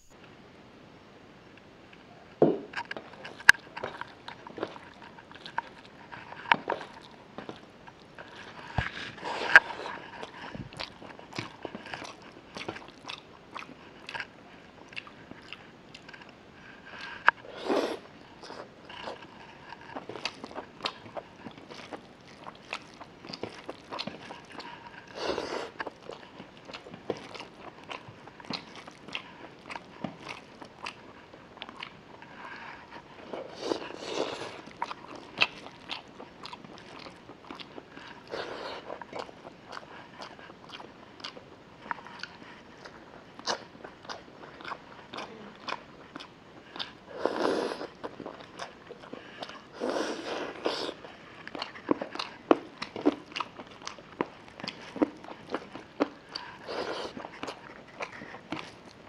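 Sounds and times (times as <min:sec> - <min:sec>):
chewing with wet mouth smacks: 0:02.8 - 0:17.4, 0:18.4 - 0:59.0.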